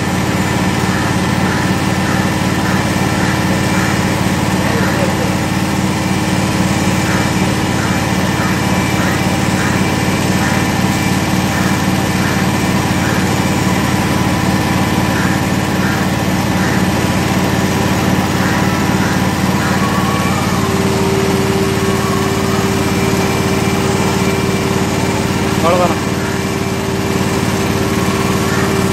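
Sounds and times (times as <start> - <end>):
rhythmic pulsing: 0.0 - 28.9
vacuum pump motor hum: 0.0 - 28.9.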